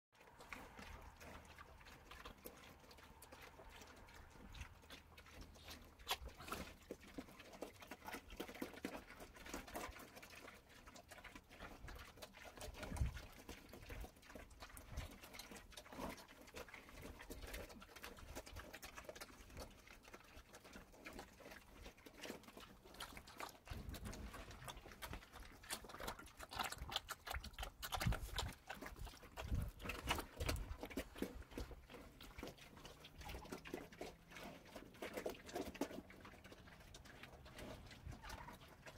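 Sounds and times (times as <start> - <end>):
piglets chewing and slurping: 0.1 - 38.9.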